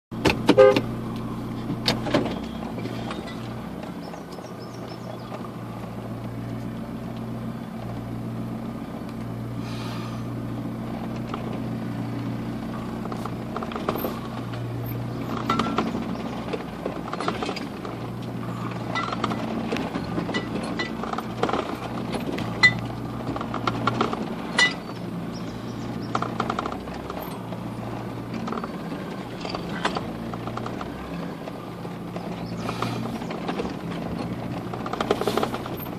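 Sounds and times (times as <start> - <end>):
engine running low hum: 0.1 - 35.9
body and gear rattling: 1.7 - 8.1, 10.8 - 35.9.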